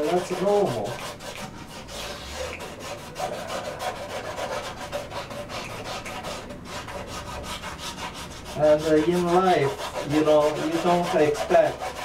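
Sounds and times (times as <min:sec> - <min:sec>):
crayon scribbling on canvas: 0:00.0 - 0:12.0.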